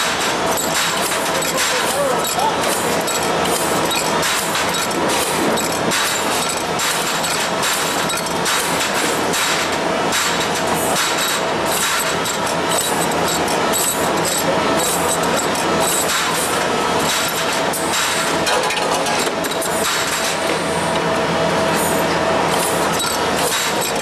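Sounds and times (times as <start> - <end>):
rapid metallic clicks and knocks: 0.0 - 21.2, 22.4 - 24.0
steady machine noise: 0.0 - 24.0.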